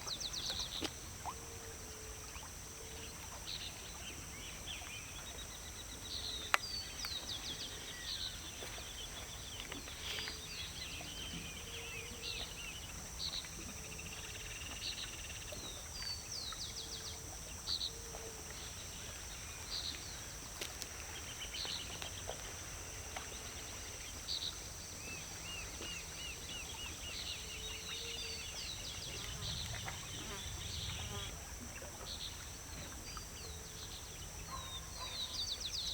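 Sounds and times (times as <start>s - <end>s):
songbirds chirping: 2.0s - 35.9s.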